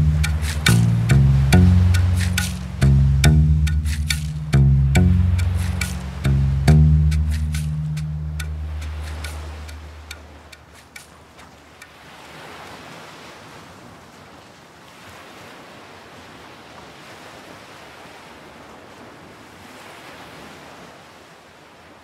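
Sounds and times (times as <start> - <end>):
waves washing on shore: 0.0 - 22.0.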